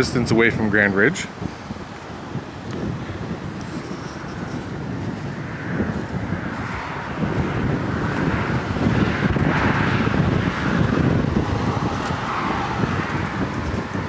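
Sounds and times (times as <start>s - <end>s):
wind rumble on microphone: 0.0s - 14.0s
vehicle passing: 1.6s - 14.0s.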